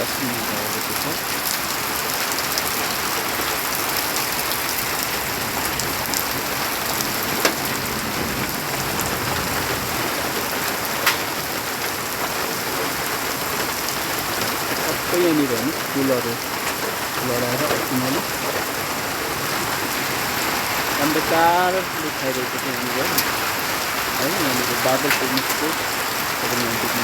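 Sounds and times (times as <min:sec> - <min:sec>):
heavy rain pattering: 0:00.0 - 0:27.0.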